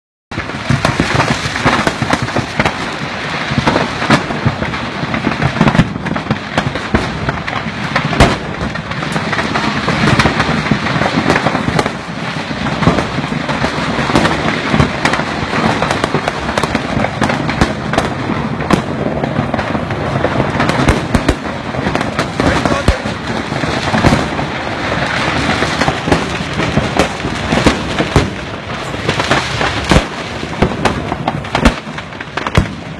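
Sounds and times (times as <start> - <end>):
firecrackers crackling: 0.3 - 32.9
loud firecracker reports: 0.3 - 32.9.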